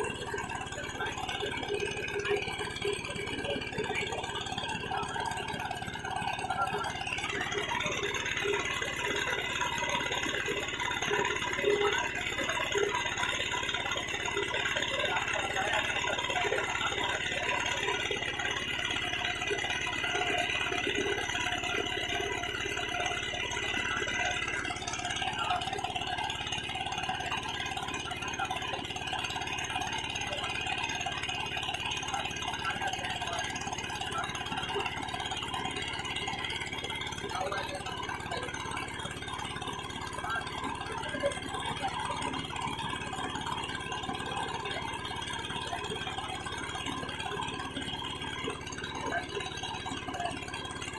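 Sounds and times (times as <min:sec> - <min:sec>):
small engine rattling: 0:00.0 - 0:50.9.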